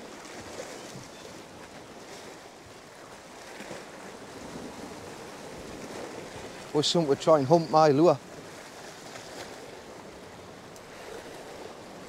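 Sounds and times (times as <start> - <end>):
waves washing on rocky shore: 0.0 - 12.0
wind: 0.0 - 12.0.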